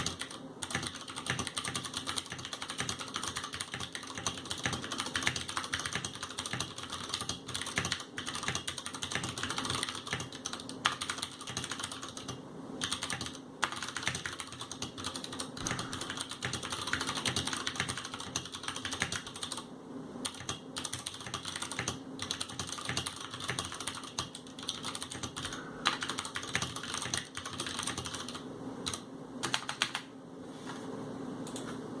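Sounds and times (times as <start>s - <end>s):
mechanical keyboard typing: 0.0s - 30.1s.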